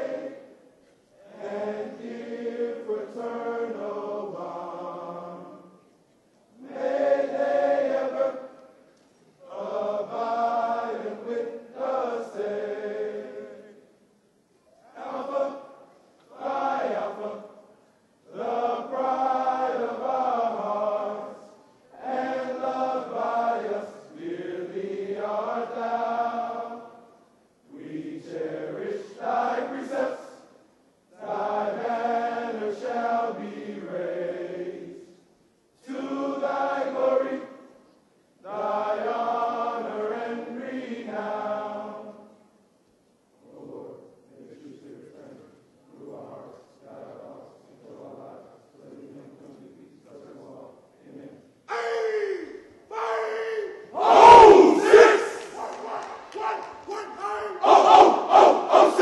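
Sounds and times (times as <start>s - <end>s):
group singing a hymn-like song: 0.0s - 14.0s, 14.8s - 37.8s, 38.4s - 42.5s, 43.4s - 52.6s, 53.4s - 59.0s.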